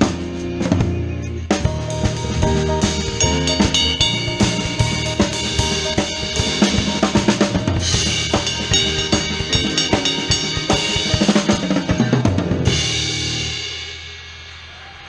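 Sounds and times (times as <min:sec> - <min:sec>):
pit band music: 0:00.0 - 0:14.4
drum kit playing: 0:00.0 - 0:14.8
cymbal crashes: 0:01.8 - 0:15.0.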